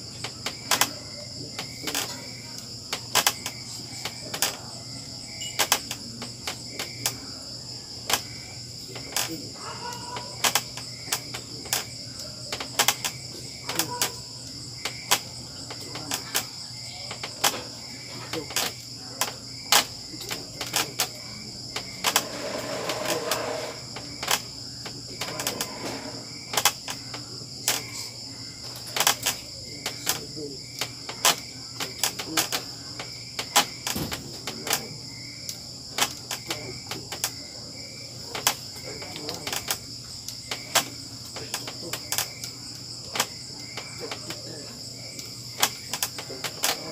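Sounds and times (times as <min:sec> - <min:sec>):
crickets trilling: 0:00.0 - 0:46.9
wooden bench creaking and knocking: 0:00.1 - 0:02.3, 0:02.9 - 0:04.6, 0:05.5 - 0:07.2, 0:08.0 - 0:14.2, 0:14.8 - 0:27.9, 0:28.6 - 0:35.0, 0:38.2 - 0:46.9.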